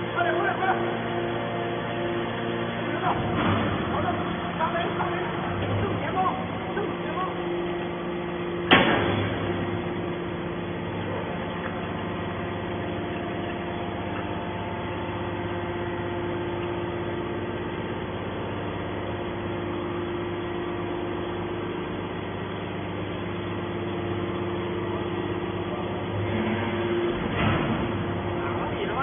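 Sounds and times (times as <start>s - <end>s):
hydraulic power unit humming: 0.0s - 29.0s.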